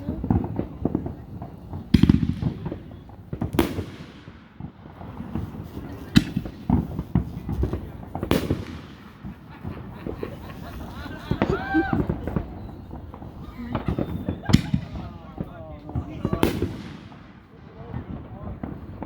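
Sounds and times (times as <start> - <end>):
firework shells banging: 0.0 - 18.9
small firework crackles: 0.0 - 19.0.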